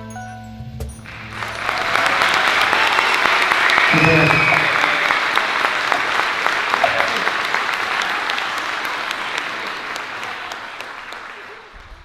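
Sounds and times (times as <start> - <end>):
audience applauding: 1.0 - 12.0.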